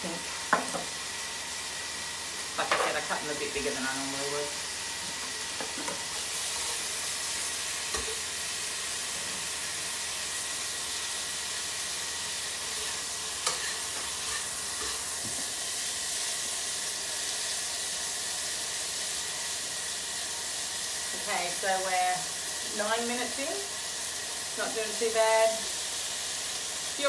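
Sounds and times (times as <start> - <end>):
chicken sizzling in a wok: 0.0 - 27.0.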